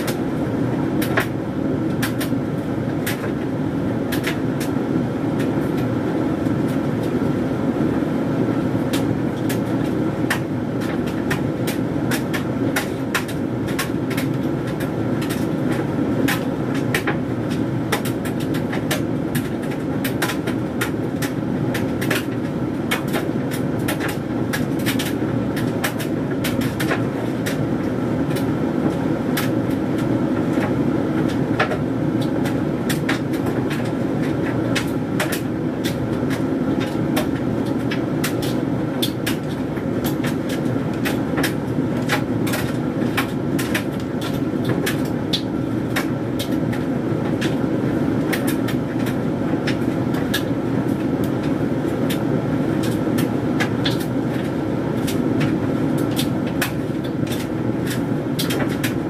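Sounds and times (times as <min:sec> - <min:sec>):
tumble dryer humming: 0:00.0 - 0:59.0.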